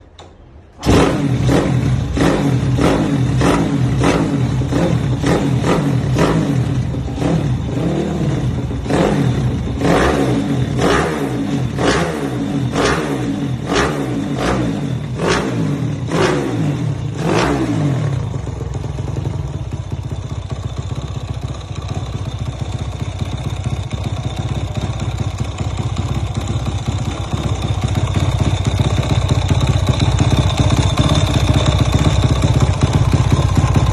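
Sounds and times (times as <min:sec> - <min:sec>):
motorcycle engine revving: 0:00.8 - 0:33.9.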